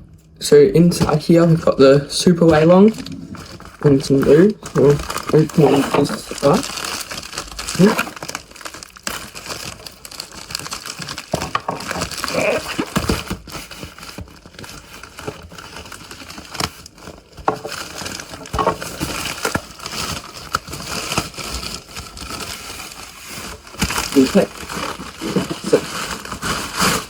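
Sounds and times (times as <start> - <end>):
packaging crinkling and rustling: 0.8 - 27.0
packaging tearing: 2.4 - 27.0.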